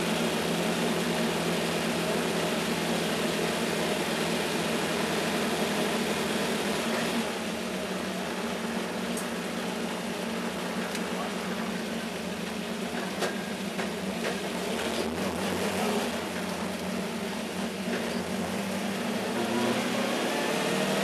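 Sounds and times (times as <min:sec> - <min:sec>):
race car engine running: 0:00.0 - 0:21.0.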